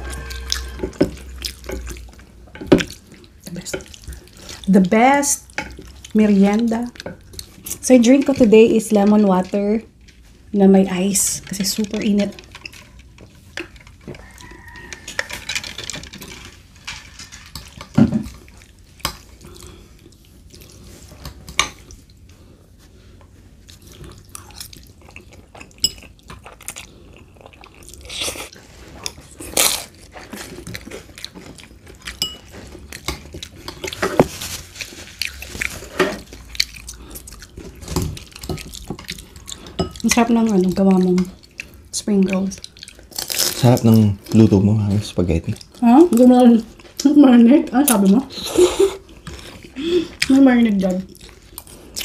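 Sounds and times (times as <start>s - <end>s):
people chewing and slurping: 0.0s - 52.0s.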